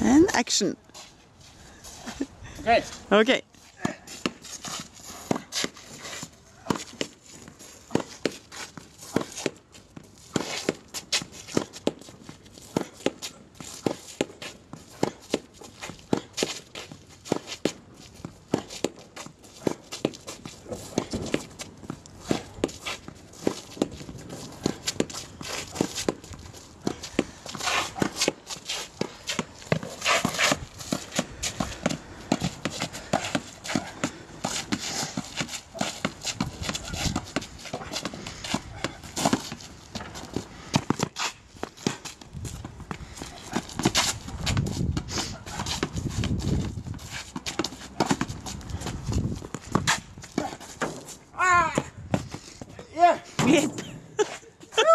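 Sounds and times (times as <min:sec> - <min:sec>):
quick footsteps: 0:00.8 - 0:52.8
rackets striking tennis balls: 0:03.6 - 0:52.7
tennis balls bouncing on court: 0:03.8 - 0:06.0, 0:06.6 - 0:51.0.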